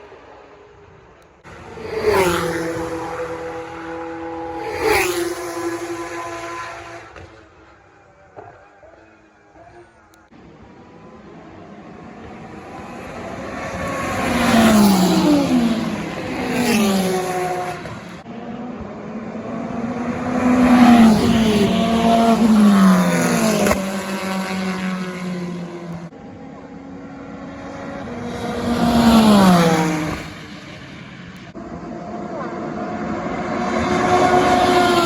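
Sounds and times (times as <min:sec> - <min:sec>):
race cars passing at speed: 0:00.0 - 0:35.0.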